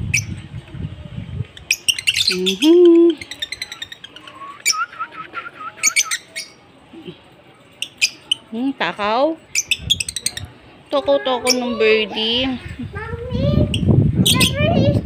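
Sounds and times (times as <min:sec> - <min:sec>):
lovebirds chirping: 0:01.4 - 0:14.8.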